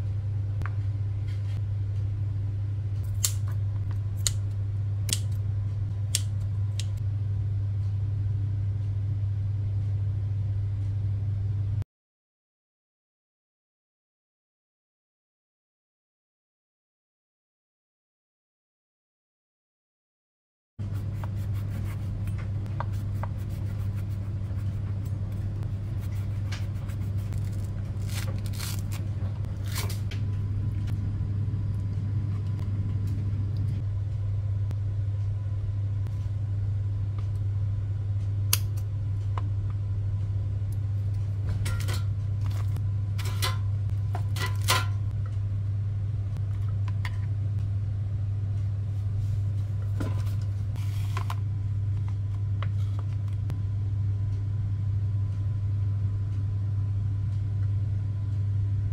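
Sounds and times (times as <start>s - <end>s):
low appliance motor hum: 0.0s - 11.8s, 20.8s - 58.9s.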